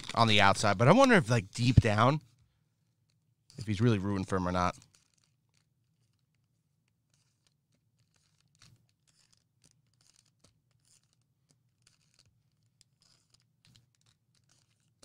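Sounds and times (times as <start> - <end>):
trading cards and foil packs rustling: 0.0 - 15.0.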